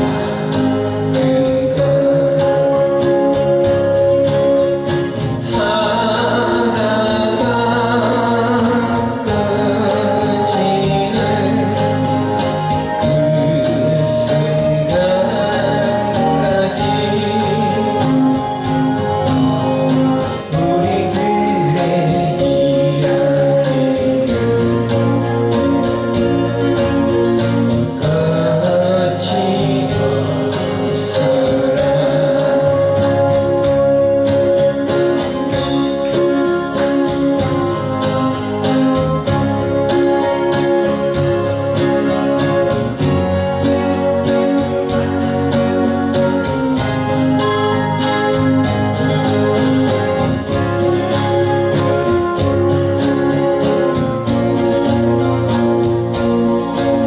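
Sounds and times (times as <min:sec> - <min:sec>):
person singing folk song: 0:00.0 - 0:57.0
strummed acoustic guitar: 0:00.0 - 0:57.0.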